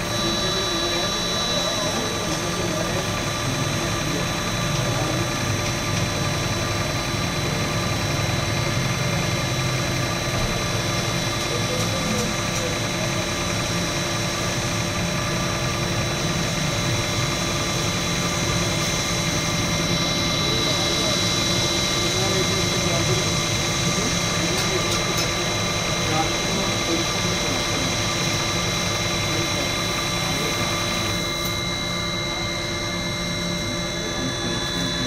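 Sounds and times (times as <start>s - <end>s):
oil press machine humming: 0.0s - 35.0s.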